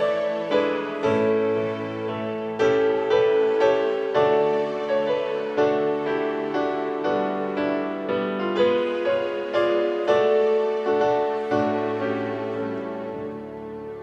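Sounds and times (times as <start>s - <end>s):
piano playing hymn chords: 0.0s - 14.0s.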